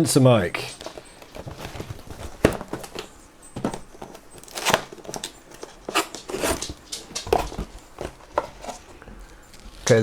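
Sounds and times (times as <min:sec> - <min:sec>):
plastic and paper rustling and tearing: 0:00.4 - 0:10.0.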